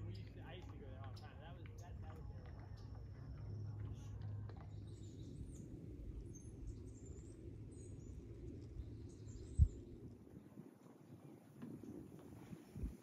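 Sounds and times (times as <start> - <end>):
steady low rumble: 0.0 - 11.1.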